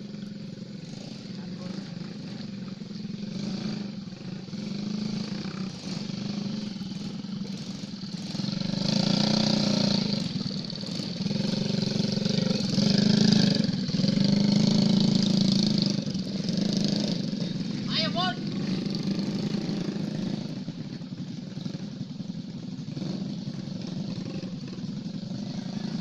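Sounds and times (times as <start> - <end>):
motocross bike engine running: 0.0 - 26.0.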